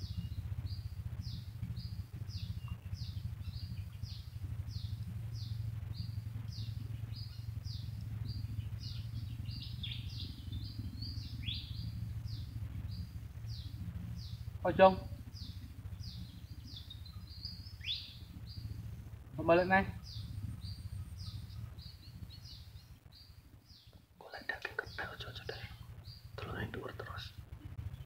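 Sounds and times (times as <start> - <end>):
bird calling with sliding notes: 0.0 - 23.4
low rumble: 0.0 - 28.0.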